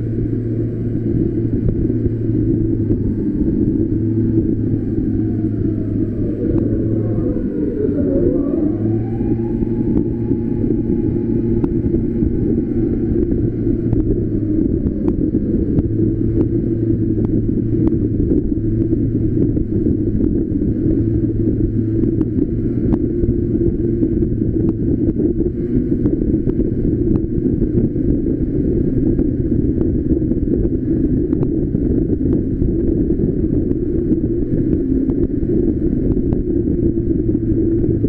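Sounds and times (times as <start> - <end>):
go-kart engine running: 0.0 - 38.0
wind on microphone: 0.0 - 38.0.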